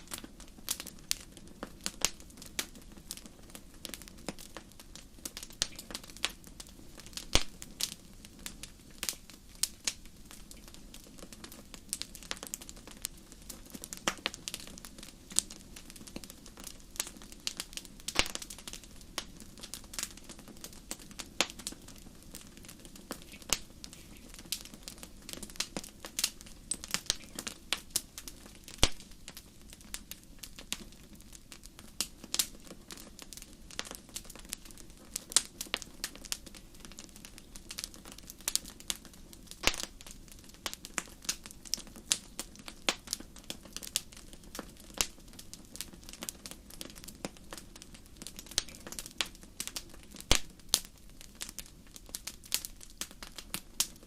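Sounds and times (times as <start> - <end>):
low rumble of burning: 0.0 - 54.0
wood fire crackling: 0.0 - 54.0.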